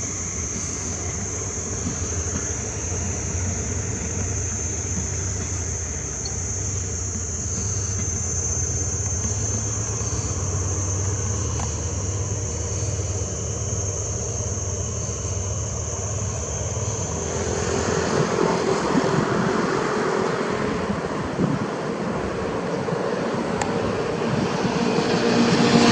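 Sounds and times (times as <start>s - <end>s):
diesel locomotive engine humming: 0.0s - 25.9s
high steady engine whine: 0.0s - 25.9s
train rushing noise: 0.0s - 25.9s.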